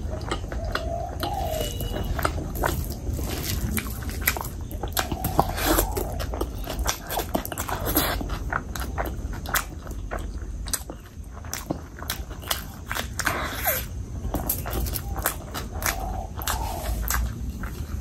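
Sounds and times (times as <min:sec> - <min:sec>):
wet chewing: 0:00.0 - 0:18.0.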